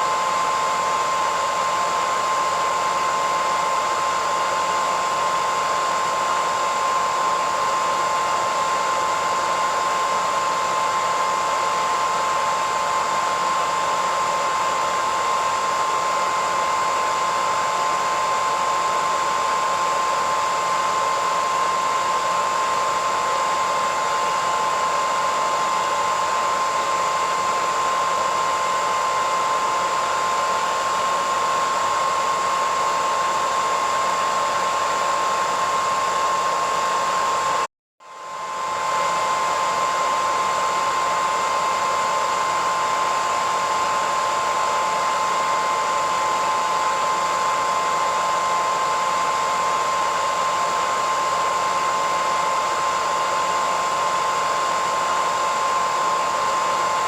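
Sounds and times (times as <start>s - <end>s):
hairdryer running: 0.0s - 57.0s.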